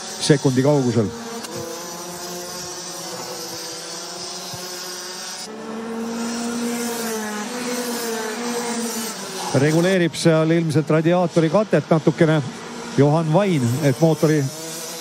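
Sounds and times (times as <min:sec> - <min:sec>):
kart engines racing past: 0:00.0 - 0:15.0.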